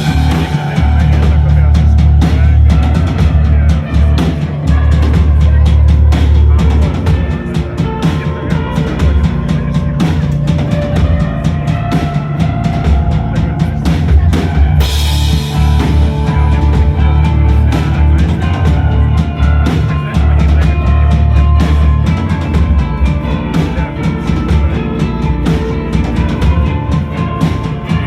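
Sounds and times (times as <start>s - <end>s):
drum kit beating: 0.0s - 28.0s
live rock band playing: 0.0s - 28.0s.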